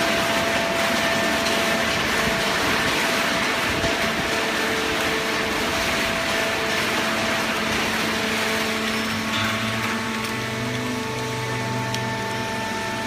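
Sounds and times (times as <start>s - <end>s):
baling machine running: 0.0s - 13.0s.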